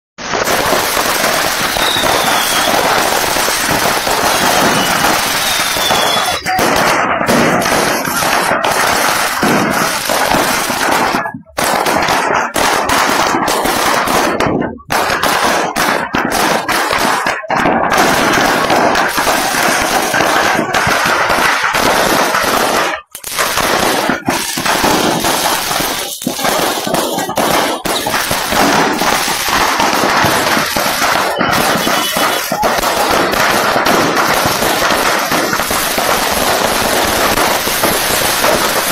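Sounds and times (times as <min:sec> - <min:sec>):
fireworks exploding: 0:00.2 - 0:38.9.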